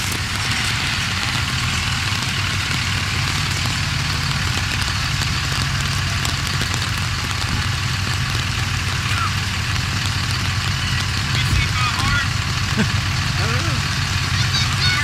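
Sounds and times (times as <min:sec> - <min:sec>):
rain hissing on wet pavement: 0:00.0 - 0:15.0
truck engine low rumble: 0:00.0 - 0:15.0.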